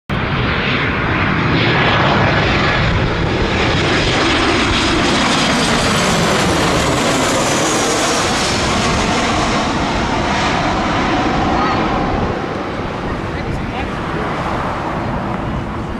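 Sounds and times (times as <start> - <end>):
jet airliner roaring overhead: 0.1 - 15.9.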